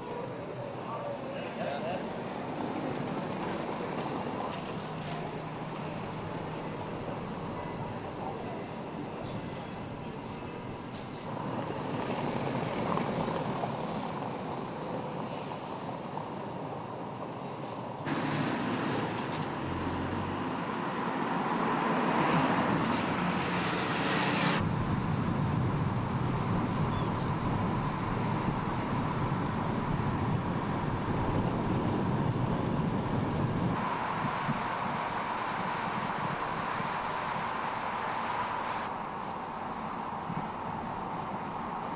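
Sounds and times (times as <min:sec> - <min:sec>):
car engine and road noise: 0:02.0 - 0:41.9.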